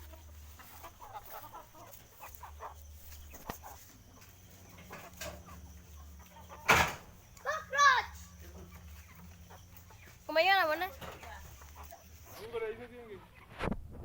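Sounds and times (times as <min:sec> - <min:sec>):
chickens clucking: 0:00.0 - 0:13.7.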